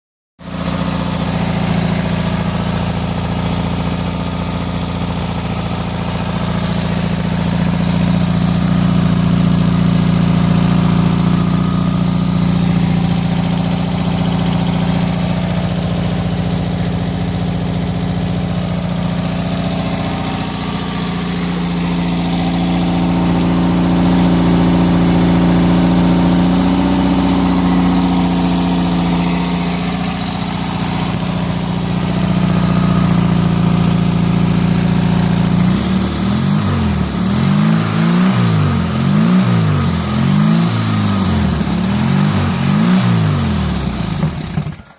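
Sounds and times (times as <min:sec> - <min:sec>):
car engine idling: 0:00.4 - 0:44.9.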